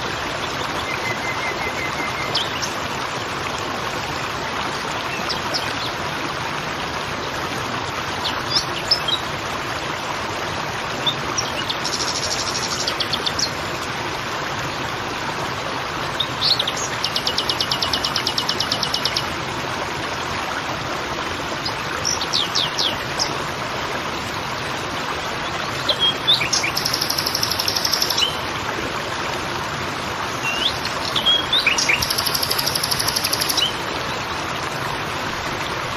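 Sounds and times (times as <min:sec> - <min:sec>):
creek water babbling: 0:00.0 - 0:35.9.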